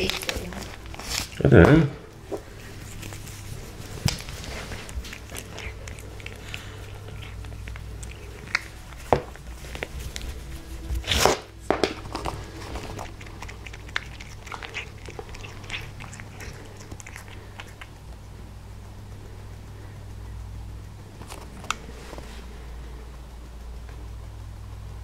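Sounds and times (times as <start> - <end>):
cat chewing and crunching: 0.0 - 25.0.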